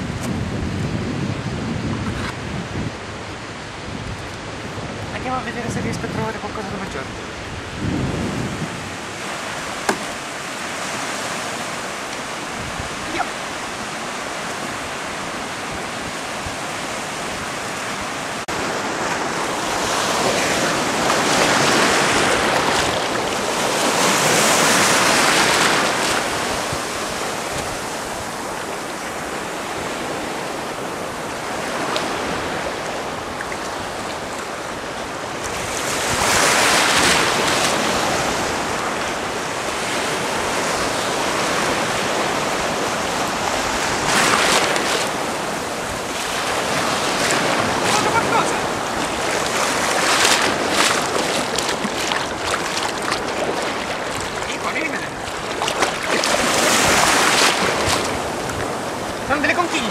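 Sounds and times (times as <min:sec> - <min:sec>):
wind buffeting the microphone: 0:00.0 - 0:59.9
small waves breaking: 0:03.0 - 0:59.9.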